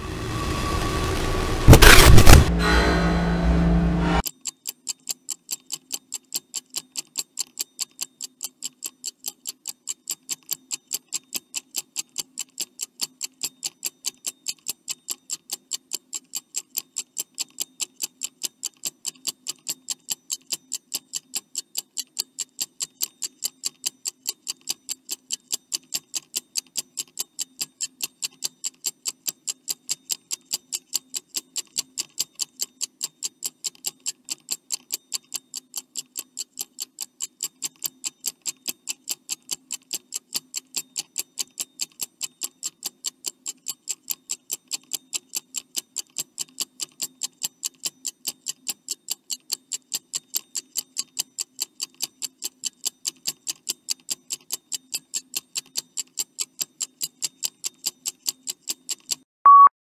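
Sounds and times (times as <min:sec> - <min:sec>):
clock ticking: 0:05.0 - 0:59.2.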